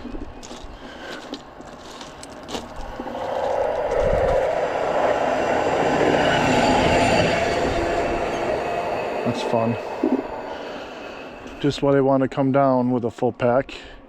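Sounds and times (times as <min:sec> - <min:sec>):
train passing close by: 0:00.8 - 0:14.0.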